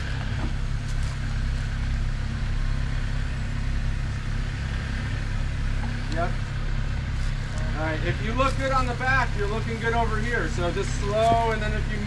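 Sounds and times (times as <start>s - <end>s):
engine rumbling at low revs: 0.0s - 12.0s.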